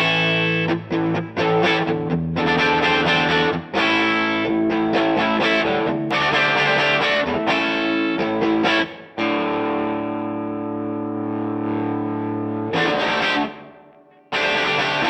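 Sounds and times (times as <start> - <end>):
overdriven electric guitar chords: 0.0 - 15.0.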